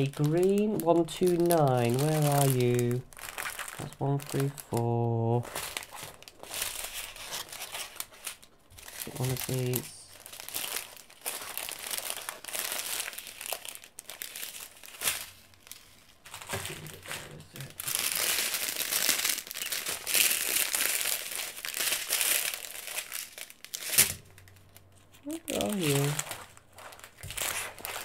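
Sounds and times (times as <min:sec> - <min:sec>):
small plastic bags rustling: 0:00.0 - 0:28.0.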